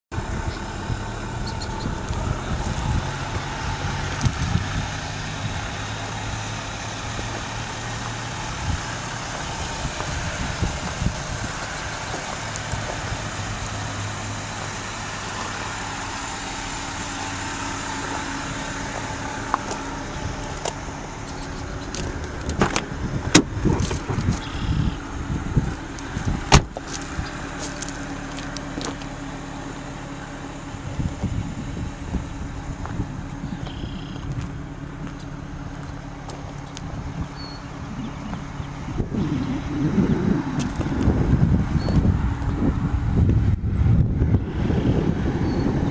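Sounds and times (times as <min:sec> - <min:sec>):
car engine idling: 0:00.1 - 0:45.9.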